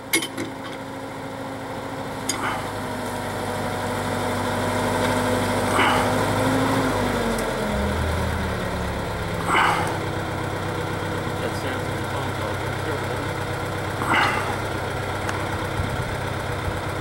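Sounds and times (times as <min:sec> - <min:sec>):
drill rig engine running: 0:00.0 - 0:17.0.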